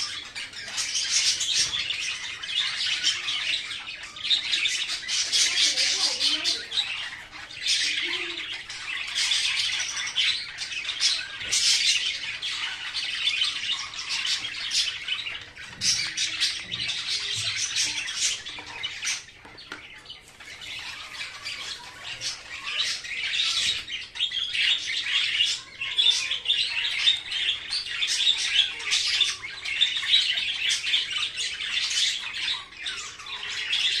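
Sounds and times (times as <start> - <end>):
parakeet squawking and chattering: 0.0 - 34.0.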